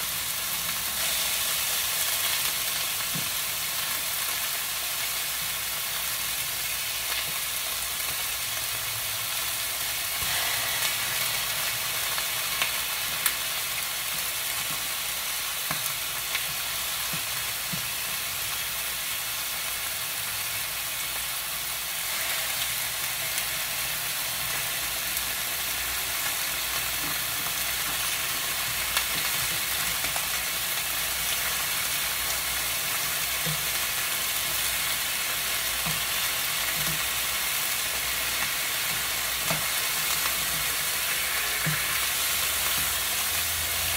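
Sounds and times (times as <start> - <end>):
chicken frying in hot oil: 0.0 - 43.9.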